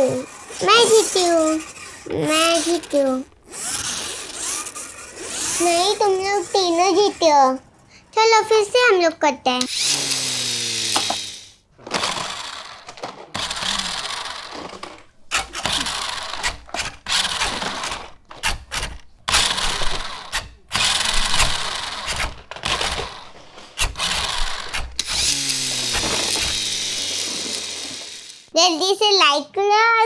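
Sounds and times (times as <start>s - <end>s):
toy cars rolling on plastic track: 0.0s - 7.6s, 8.3s - 28.6s.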